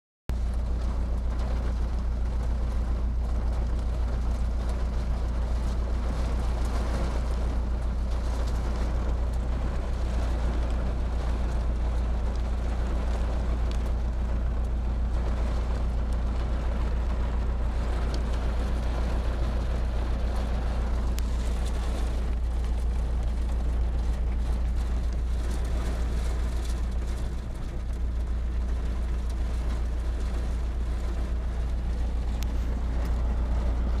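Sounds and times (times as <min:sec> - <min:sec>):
deep rumble: 0:00.3 - 0:34.0
heavy rain pouring: 0:00.3 - 0:34.0
raindrops ticking: 0:00.3 - 0:34.0.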